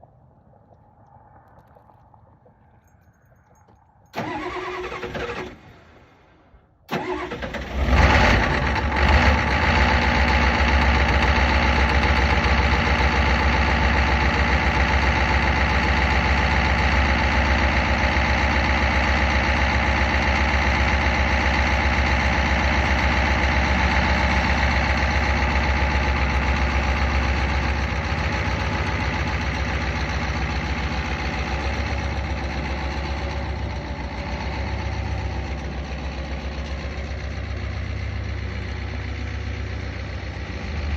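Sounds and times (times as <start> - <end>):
diesel engine idling: 4.2 - 40.9.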